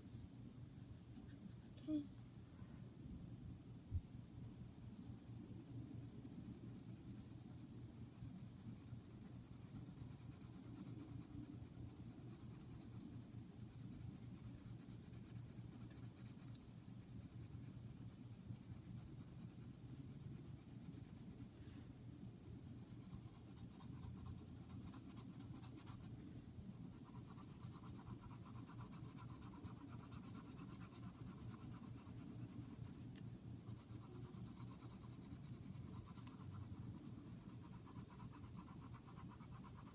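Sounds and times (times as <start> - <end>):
pencil scratching on paper: 5.0 - 21.5, 22.4 - 26.1, 26.7 - 33.0, 33.6 - 39.9.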